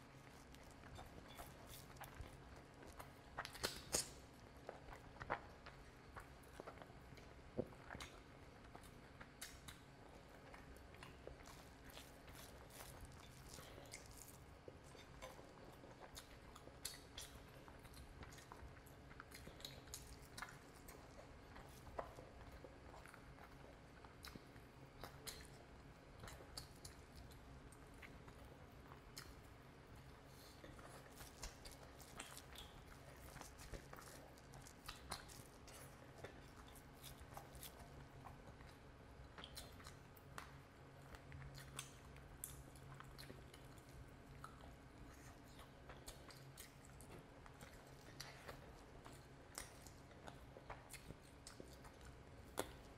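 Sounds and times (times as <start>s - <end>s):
faint low hum: 0.0s - 52.9s
wet chewing and biting: 0.0s - 52.9s.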